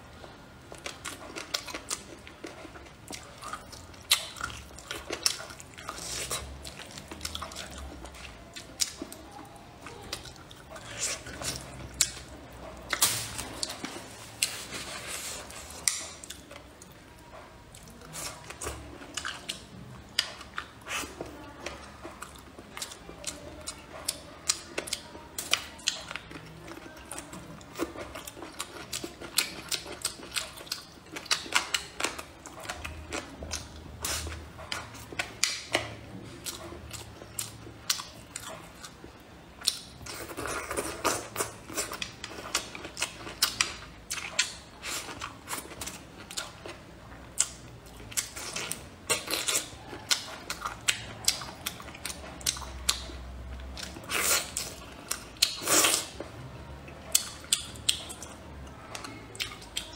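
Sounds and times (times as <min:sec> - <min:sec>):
person chewing with wet smacks: 0:00.1 - 0:59.9.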